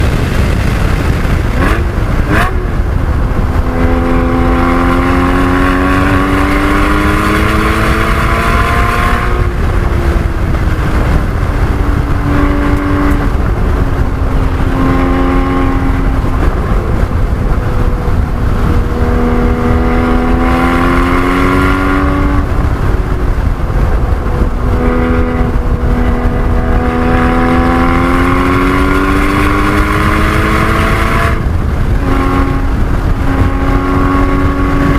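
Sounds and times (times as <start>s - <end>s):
car engine at full throttle: 0.0s - 34.9s
road and wind noise: 0.0s - 34.9s.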